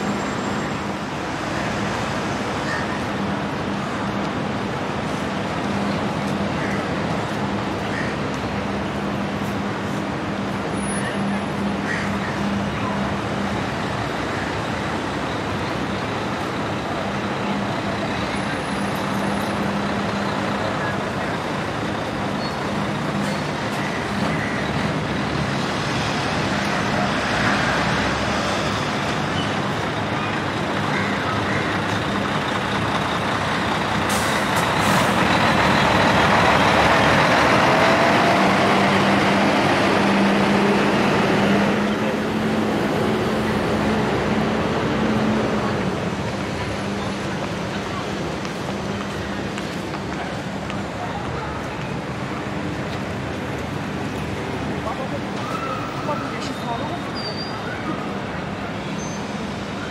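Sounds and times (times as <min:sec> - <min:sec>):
passing vehicles: 0:00.0 - 0:59.9.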